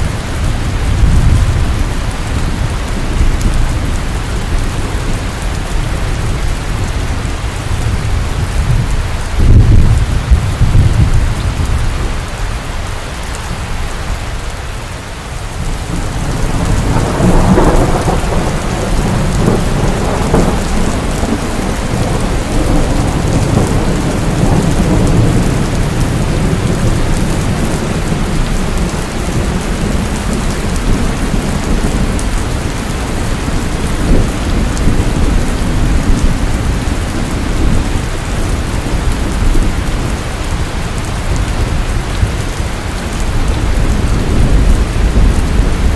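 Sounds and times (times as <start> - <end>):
low rolling thunder: 0.0 - 12.4, 15.5 - 45.9
rain falling: 0.0 - 45.9.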